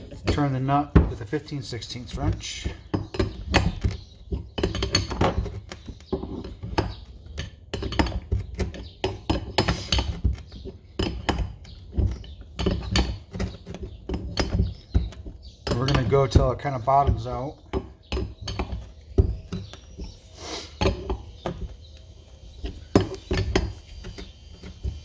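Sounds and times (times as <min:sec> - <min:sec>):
wrenches clinking on metal: 0:00.0 - 0:20.1.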